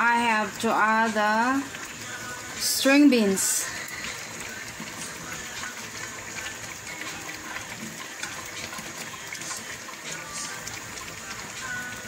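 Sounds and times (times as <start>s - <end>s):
sauce bubbling in a pan: 0.0s - 12.0s.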